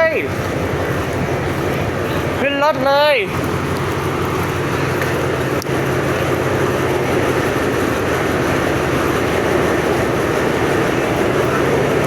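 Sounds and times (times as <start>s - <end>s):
locomotive engine humming: 0.0s - 12.0s.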